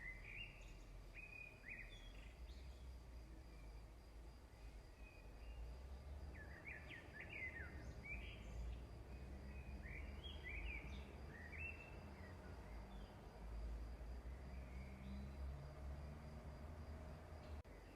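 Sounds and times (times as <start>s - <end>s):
faint bird chirps: 0.0s - 13.5s, 14.2s - 15.6s.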